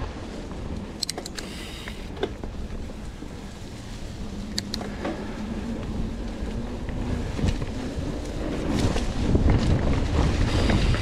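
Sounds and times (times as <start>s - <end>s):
bike tyres rumbling on dirt: 0.0s - 11.0s
wind on microphone: 0.0s - 11.0s
bike clicks: 0.7s - 11.0s.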